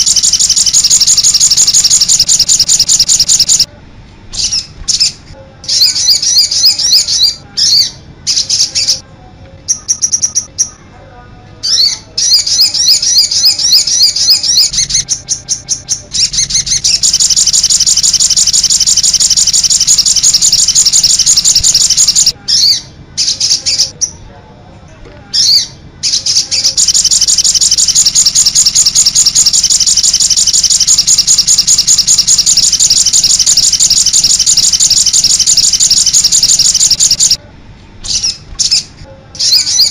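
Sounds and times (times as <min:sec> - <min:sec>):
songbird chirps and trills: 0:00.0 - 0:03.7, 0:04.3 - 0:09.0, 0:09.6 - 0:11.0, 0:11.6 - 0:24.2, 0:25.4 - 0:37.4, 0:38.0 - 0:39.9.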